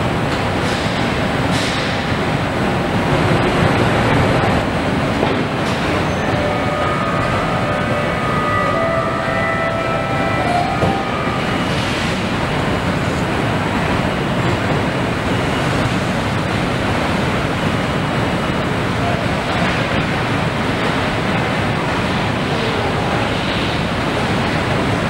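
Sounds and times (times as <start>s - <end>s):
machinery rushing noise: 0.0s - 25.0s.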